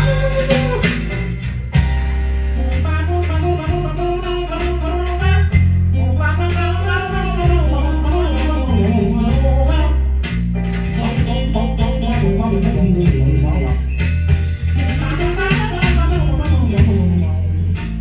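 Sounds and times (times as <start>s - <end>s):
blues song with guitar and singing: 0.0s - 18.0s.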